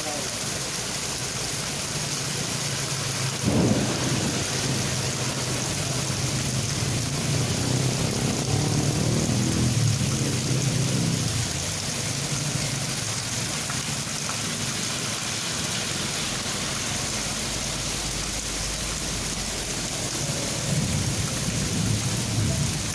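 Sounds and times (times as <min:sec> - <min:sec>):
heavy rain hissing: 0:00.0 - 0:22.9.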